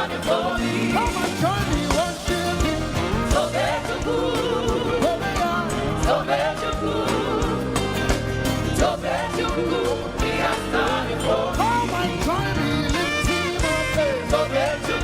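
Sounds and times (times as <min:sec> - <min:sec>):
band with bass and drums: 0:00.0 - 0:15.0
voices singing gospel: 0:00.0 - 0:15.0.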